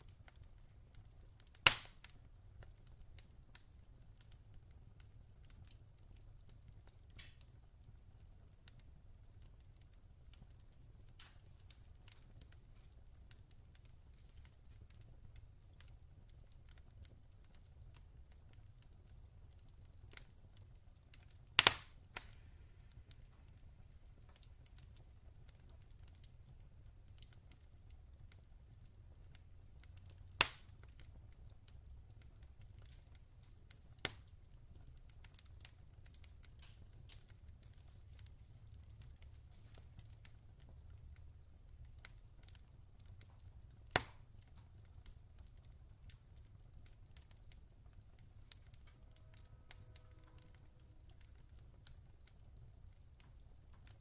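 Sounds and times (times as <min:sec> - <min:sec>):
log fire crackling: 0:00.0 - 0:54.0.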